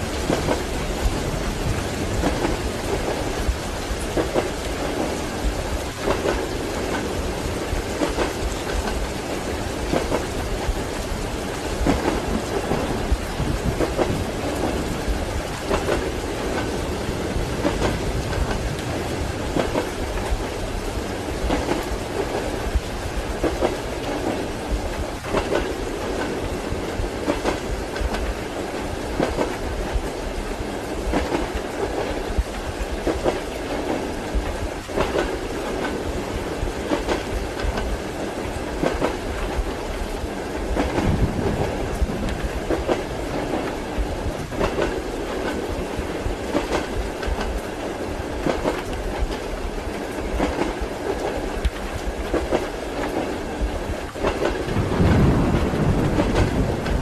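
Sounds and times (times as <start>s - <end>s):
rain: 0.0s - 57.0s
train rumbling: 0.0s - 57.0s
train wheels clacking on rail joints: 0.0s - 57.0s.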